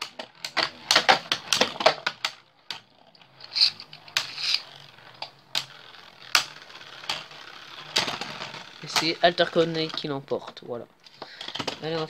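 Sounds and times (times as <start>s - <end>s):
spinning tops clashing: 0.0s - 10.2s.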